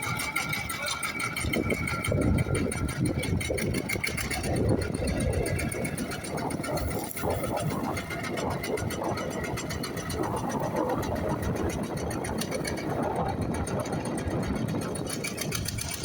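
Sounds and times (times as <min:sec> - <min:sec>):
engine running with fast ticking: 0:00.0 - 0:16.0.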